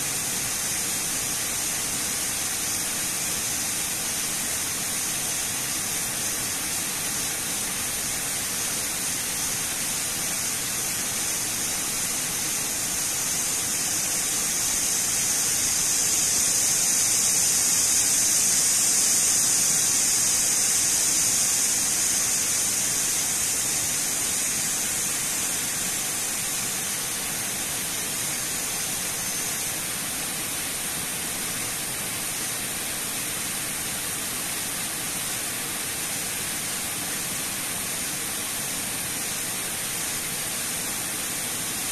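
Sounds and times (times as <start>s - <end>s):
water rushing down spillway: 0.0s - 41.9s.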